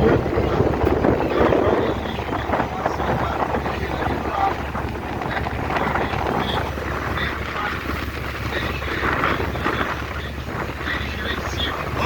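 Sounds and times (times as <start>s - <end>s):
boat engine running: 0.0s - 12.0s
wind on microphone: 0.0s - 12.0s.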